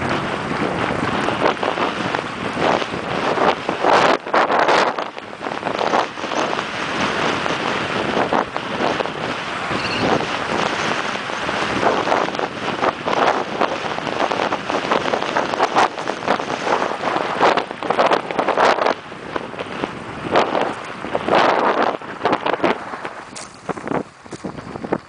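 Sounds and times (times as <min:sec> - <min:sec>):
bike rattling over rough dirt: 0:00.0 - 0:25.0
wind rushing over microphone: 0:00.0 - 0:25.0.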